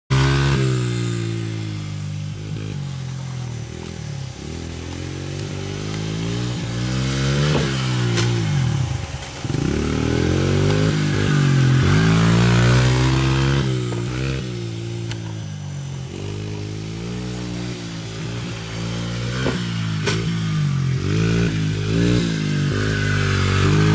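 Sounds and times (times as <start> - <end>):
dirt bike engine revving: 0.1 - 23.9.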